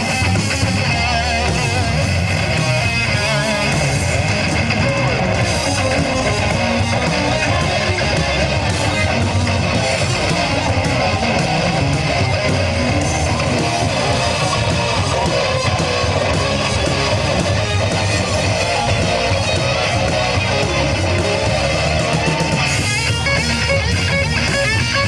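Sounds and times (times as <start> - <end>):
live rock band playing: 0.0 - 25.0
strummed electric guitar: 0.0 - 25.0.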